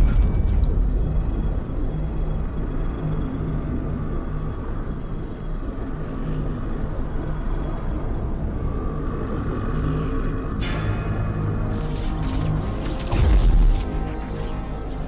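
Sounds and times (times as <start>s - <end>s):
deep rumbling drone: 0.0s - 15.0s
low hum tones: 0.0s - 15.0s.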